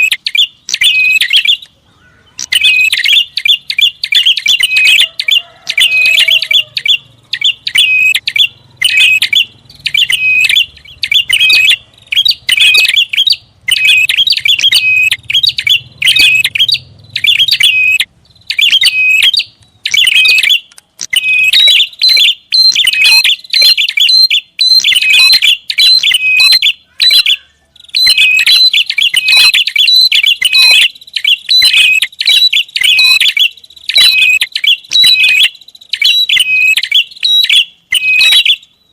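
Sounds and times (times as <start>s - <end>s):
bird calling high chirps: 0.0s - 38.9s.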